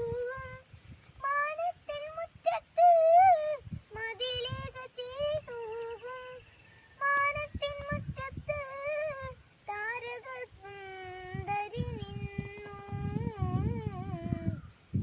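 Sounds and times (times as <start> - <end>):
girl singing solo: 0.0 - 0.6, 1.2 - 6.4, 7.0 - 14.7.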